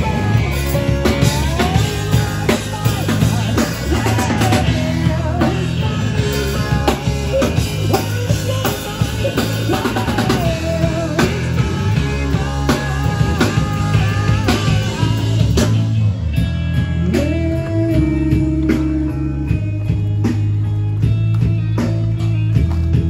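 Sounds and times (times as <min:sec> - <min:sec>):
drum kit kick and snare: 0:00.0 - 0:23.0
electric guitars: 0:00.0 - 0:23.0.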